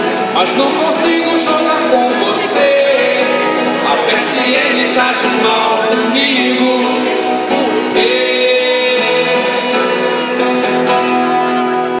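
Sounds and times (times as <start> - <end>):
man singing into a microphone: 0.0 - 10.8
acoustic guitar strumming: 0.0 - 12.0.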